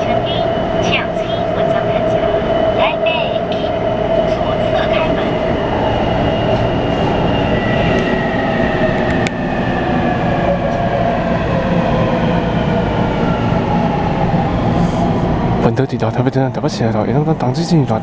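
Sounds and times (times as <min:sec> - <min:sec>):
train wheel and running noise: 0:00.0 - 0:18.0.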